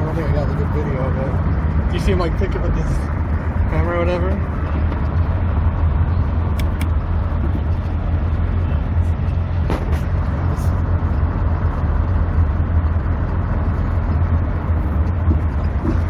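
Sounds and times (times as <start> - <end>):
car engine and tyre rumble: 0.0 - 16.0
wind through open car: 0.0 - 16.0.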